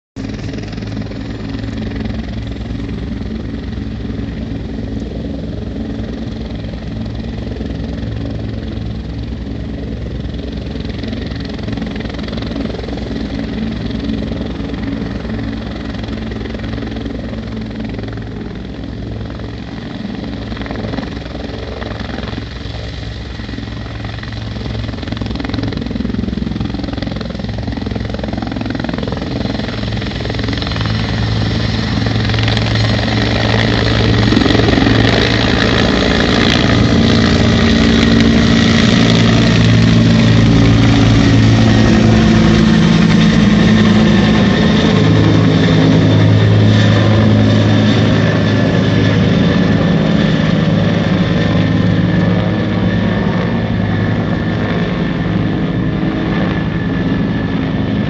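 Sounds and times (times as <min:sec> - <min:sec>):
helicopter rotor beating: 0:00.2 - 0:58.0.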